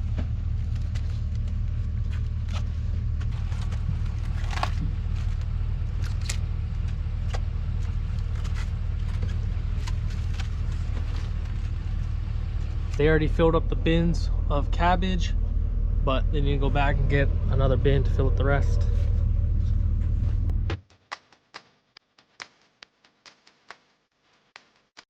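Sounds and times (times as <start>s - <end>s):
vehicle engine rumble: 0.0s - 20.8s.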